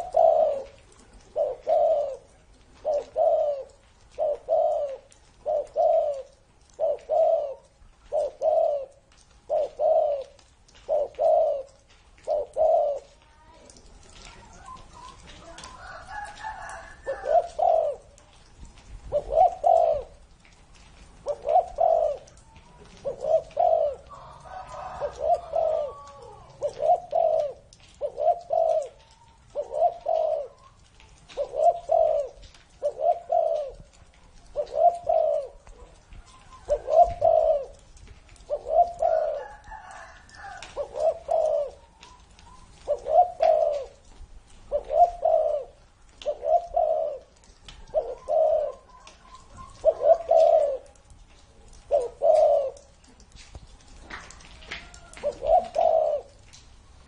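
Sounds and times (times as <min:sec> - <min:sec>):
dove cooing: 0:00.0 - 0:53.3, 0:54.1 - 0:57.0.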